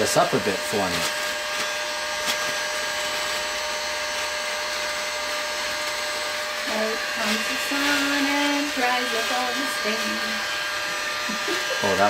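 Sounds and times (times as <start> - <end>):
blower whooshing: 0.0 - 12.0.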